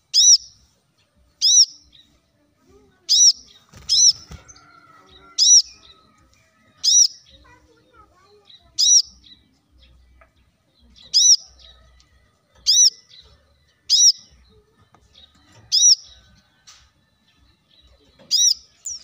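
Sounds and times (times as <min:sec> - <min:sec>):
soft bird chirps: 0:00.0 - 0:19.0.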